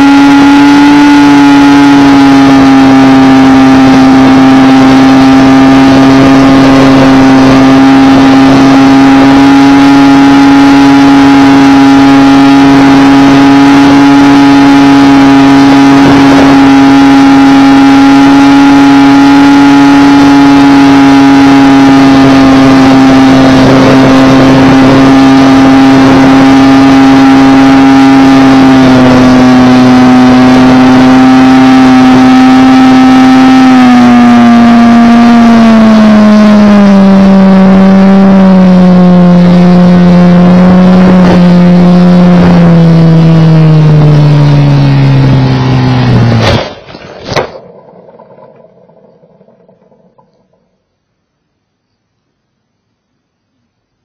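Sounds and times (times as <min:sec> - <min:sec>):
model plane motor whining: 0:00.0 - 0:50.6.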